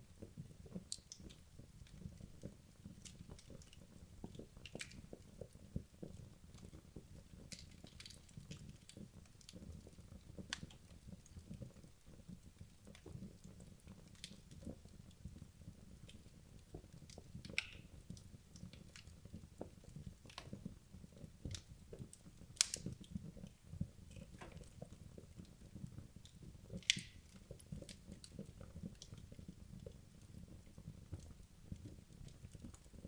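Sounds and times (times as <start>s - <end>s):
logs crackling and popping in fire: 0.1s - 33.0s.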